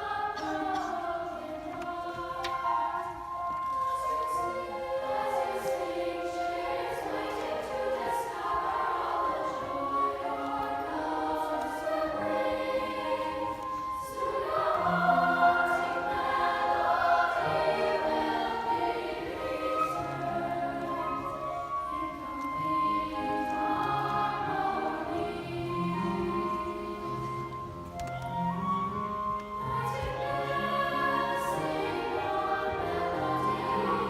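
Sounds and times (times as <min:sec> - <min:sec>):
choir singing held chords: 0:00.0 - 0:34.0.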